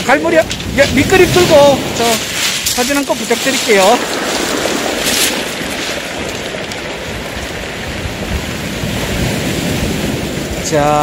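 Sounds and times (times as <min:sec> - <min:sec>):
surf on pebble beach: 0:00.0 - 0:11.0.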